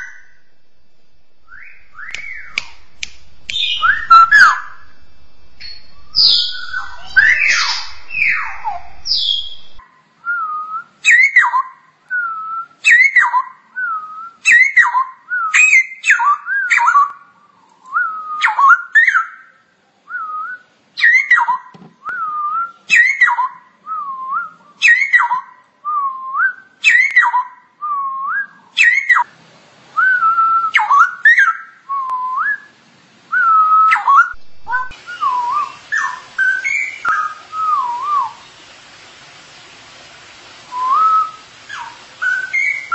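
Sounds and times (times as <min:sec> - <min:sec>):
bird singing whistled phrases: 0:00.0 - 0:19.5, 0:20.1 - 0:29.3, 0:30.0 - 0:32.7, 0:33.3 - 0:38.5, 0:40.7 - 0:42.9.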